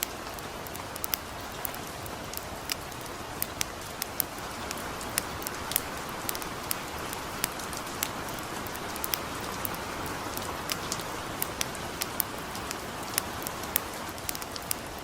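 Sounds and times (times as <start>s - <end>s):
campfire crackling and popping: 0.0s - 15.0s
light rain hissing: 0.0s - 15.0s.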